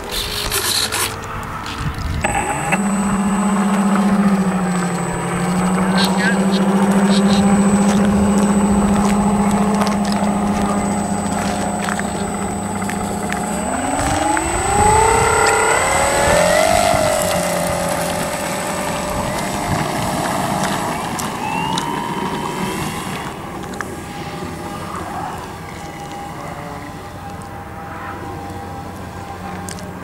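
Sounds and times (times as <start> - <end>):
electric motor and propeller whining: 0.0 - 30.0.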